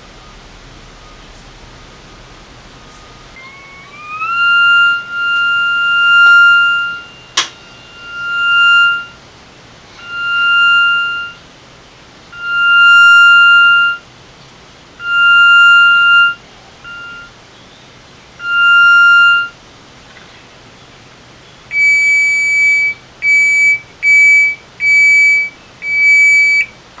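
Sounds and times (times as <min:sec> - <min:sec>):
piezo speaker beeping: 0:00.0 - 0:11.6, 0:12.2 - 0:14.1, 0:15.0 - 0:17.4, 0:18.4 - 0:19.6, 0:21.7 - 0:26.8.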